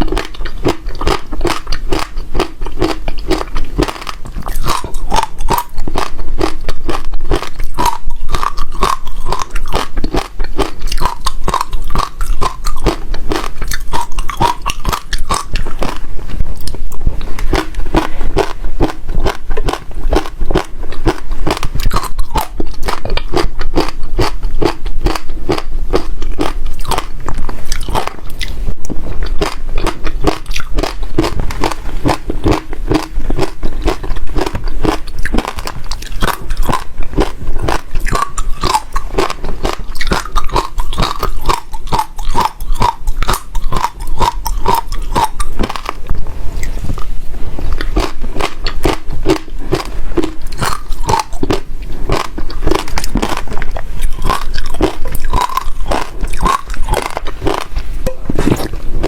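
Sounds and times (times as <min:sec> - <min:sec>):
seeds crunched between teeth: 0:00.0 - 0:46.0, 0:47.7 - 0:57.8.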